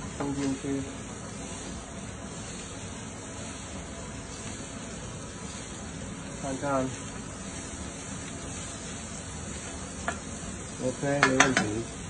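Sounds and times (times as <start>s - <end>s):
rice sizzling in wok: 0.0s - 12.0s.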